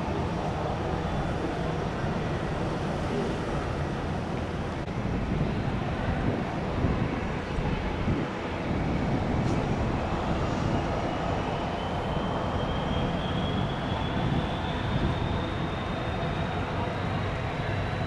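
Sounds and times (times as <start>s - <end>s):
jet engines rumbling and whining: 0.0s - 18.0s.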